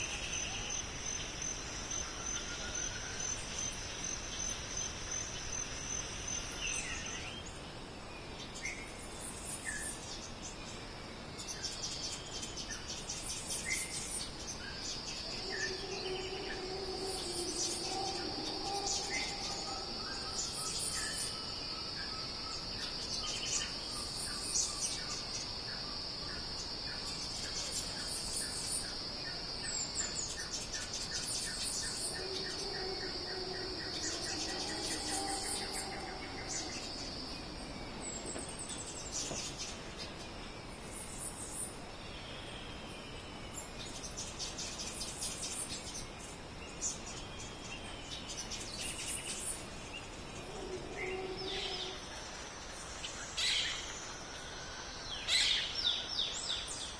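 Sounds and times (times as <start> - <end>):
high insect drone: 0.0 - 56.9.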